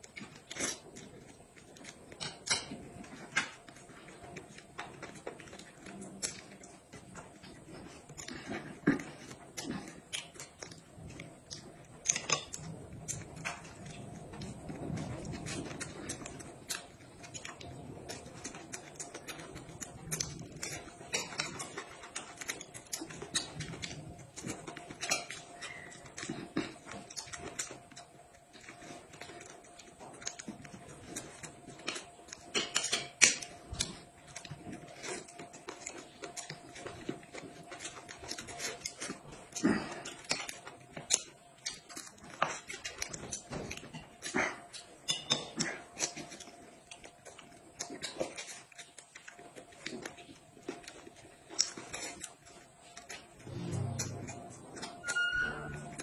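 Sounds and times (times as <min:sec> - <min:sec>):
people chewing: 0:00.0 - 0:56.0.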